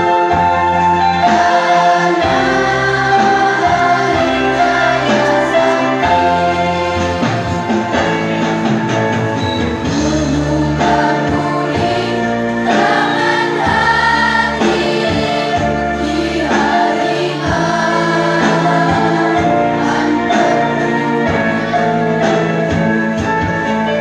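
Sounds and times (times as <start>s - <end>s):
girls' choir singing: 0.0s - 8.4s, 9.9s - 22.8s.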